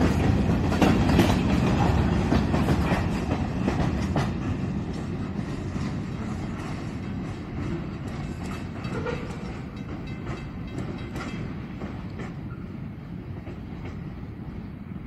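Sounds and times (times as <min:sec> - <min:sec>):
train wheels clicking and clanking: 0:00.0 - 0:14.8
freight train rumbling: 0:00.0 - 0:15.0.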